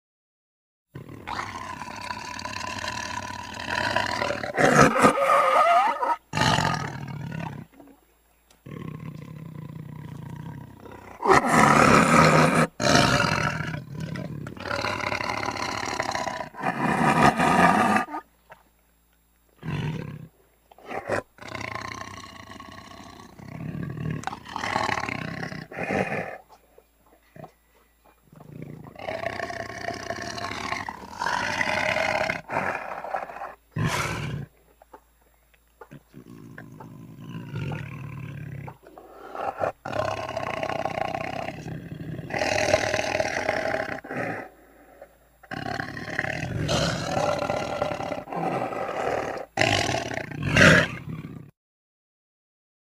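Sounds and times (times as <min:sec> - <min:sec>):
tiger roaring and growling: 0:01.0 - 0:08.0, 0:08.6 - 0:18.3, 0:19.6 - 0:26.5, 0:28.2 - 0:34.6, 0:35.9 - 0:51.5.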